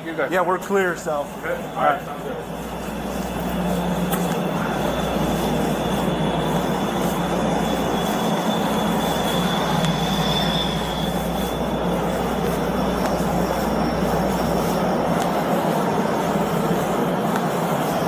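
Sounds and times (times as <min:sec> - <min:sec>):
train rumbling on rails: 0:00.0 - 0:18.0
high wheel squeal: 0:00.8 - 0:18.0.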